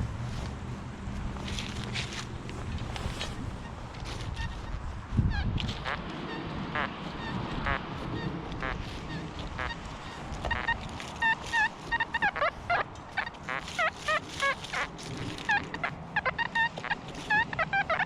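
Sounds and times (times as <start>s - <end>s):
geese honking: 2.8s - 18.0s.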